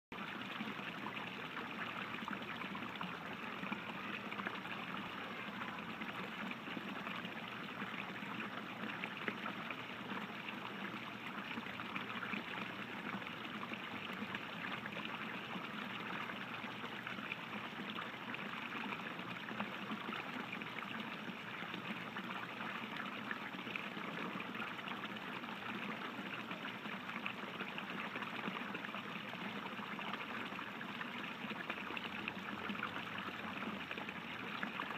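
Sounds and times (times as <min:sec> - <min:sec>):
fountain water splashing into pool: 0:00.1 - 0:34.9.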